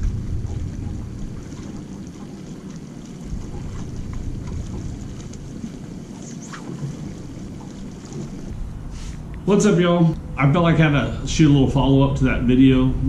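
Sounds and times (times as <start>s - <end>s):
water against hull: 0.0s - 13.0s
wind rumble on microphone: 0.0s - 13.0s.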